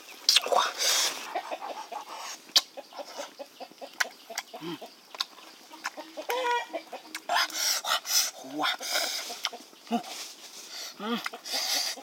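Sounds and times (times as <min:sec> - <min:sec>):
chicken clucking: 0:01.1 - 0:10.2, 0:11.0 - 0:12.0.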